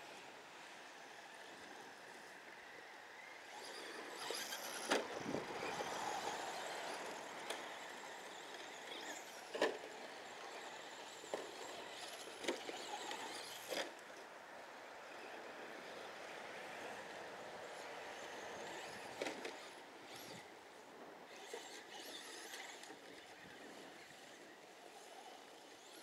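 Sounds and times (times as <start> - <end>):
electric toy truck motors whining: 0.0 - 14.2, 14.8 - 26.0.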